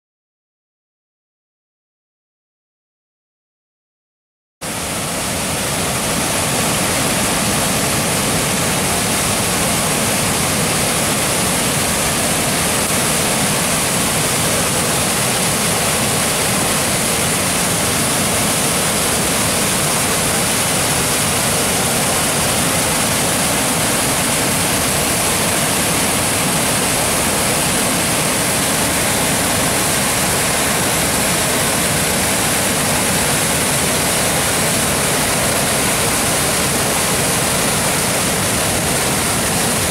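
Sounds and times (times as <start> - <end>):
water rushing over dam: 4.6 - 39.9.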